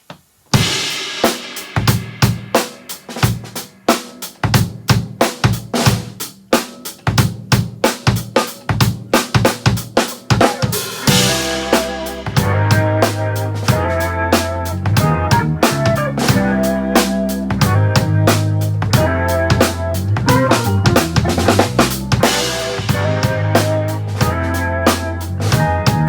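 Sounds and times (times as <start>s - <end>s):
drum kit playing: 0.3s - 26.0s
pitched backing music: 0.6s - 26.0s.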